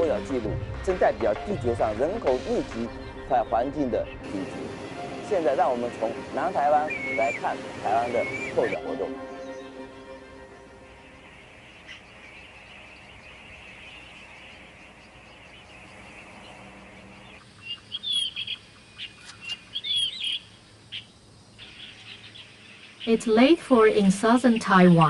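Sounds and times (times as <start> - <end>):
birds chirping: 0.0 - 25.0
steady high background hiss: 4.2 - 25.0.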